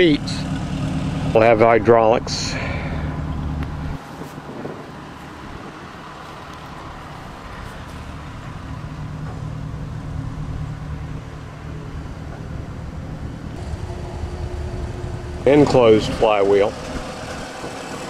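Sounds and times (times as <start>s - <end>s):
engine idling: 0.0s - 4.0s, 4.6s - 18.0s.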